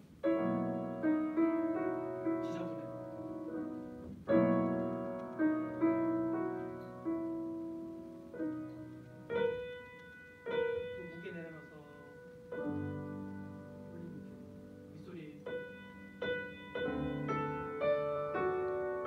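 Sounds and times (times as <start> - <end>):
grand piano playing slow chords: 0.0 - 19.0.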